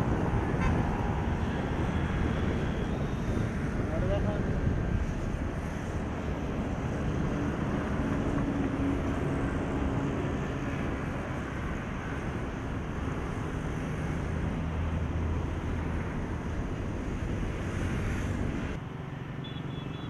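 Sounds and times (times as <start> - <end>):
outdoor noise: 0.0 - 20.0.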